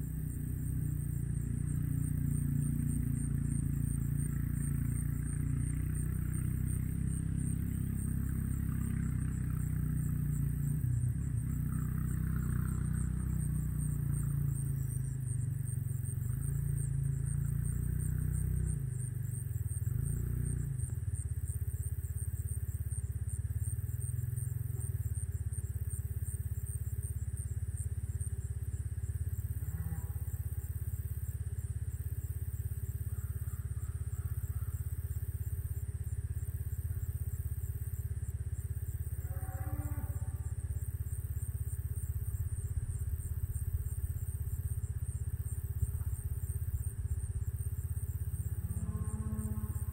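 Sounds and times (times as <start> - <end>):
insect trill: 0.0 - 49.9
low steady rumble: 0.0 - 49.9.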